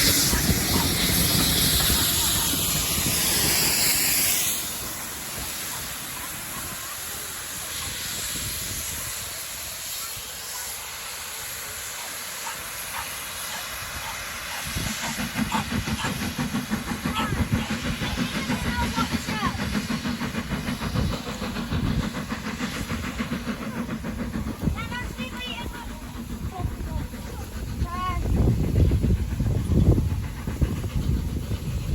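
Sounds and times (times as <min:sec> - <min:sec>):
steam hissing: 0:00.0 - 0:31.9.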